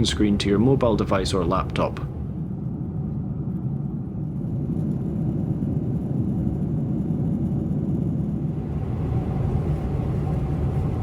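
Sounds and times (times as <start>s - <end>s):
airliner cabin engine roar: 0.0s - 11.0s.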